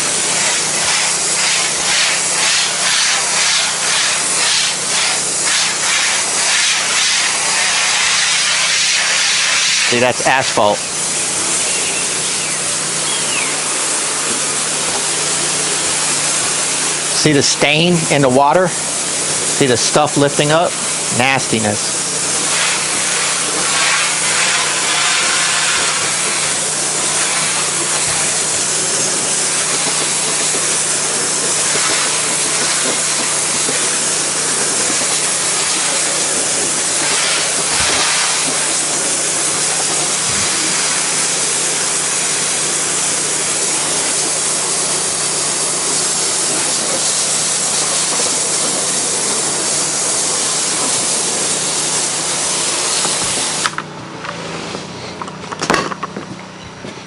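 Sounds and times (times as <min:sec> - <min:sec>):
pressure washer spray hiss: 0:00.0 - 0:53.8.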